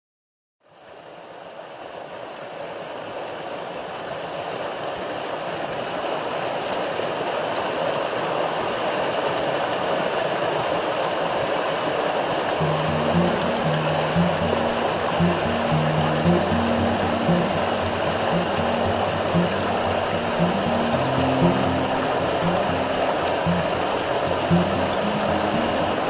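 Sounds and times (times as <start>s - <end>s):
stream rushing over rocks: 0.6s - 26.0s.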